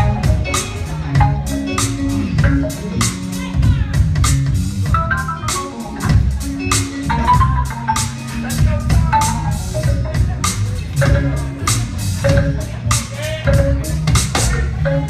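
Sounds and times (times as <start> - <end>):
organ chords and runs: 0.0 - 3.4, 4.3 - 15.0
steady drum beat: 0.0 - 15.0.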